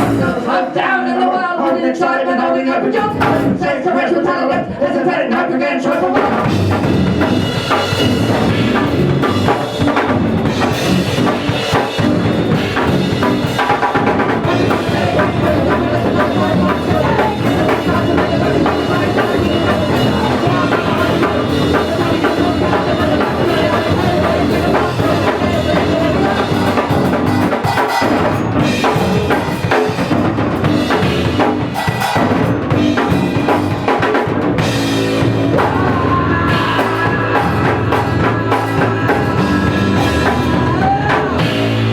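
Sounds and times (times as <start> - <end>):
bass guitar: 0.0 - 0.6, 3.0 - 3.7, 6.1 - 41.9
drum kit playing punk rock: 0.0 - 2.1, 2.8 - 41.9.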